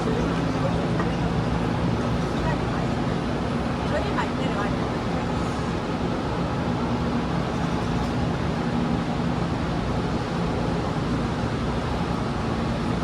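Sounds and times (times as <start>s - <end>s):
train rumble and rush: 0.0s - 13.0s.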